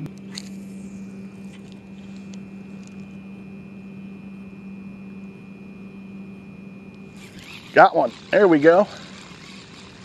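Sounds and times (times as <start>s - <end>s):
high-pitched whine: 0.0s - 10.0s
mechanical hum: 0.0s - 10.0s.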